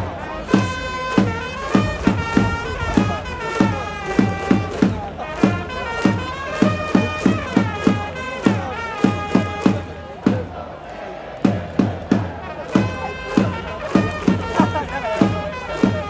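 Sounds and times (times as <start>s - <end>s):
stadium music with thumping beat: 0.0s - 16.0s.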